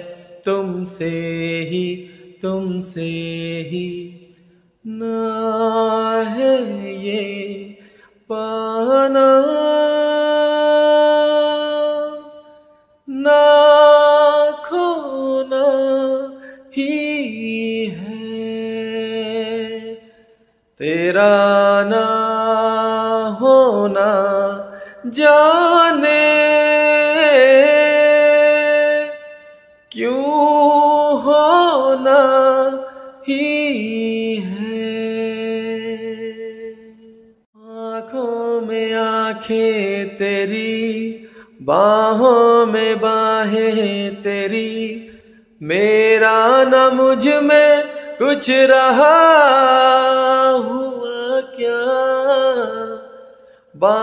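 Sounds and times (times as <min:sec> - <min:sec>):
man singing unaccompanied: 0:00.0 - 0:20.1, 0:20.8 - 0:54.0.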